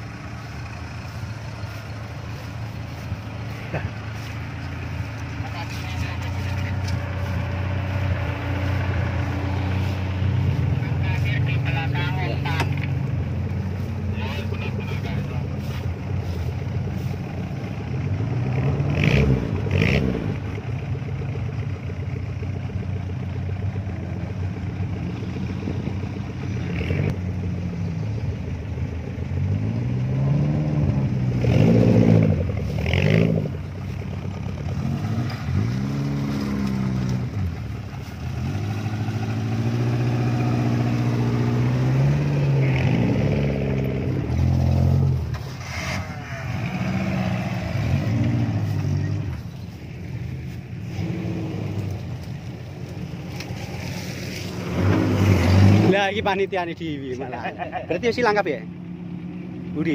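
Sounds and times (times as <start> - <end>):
engine revving: 0.0 - 21.2, 24.2 - 28.4, 29.3 - 59.9.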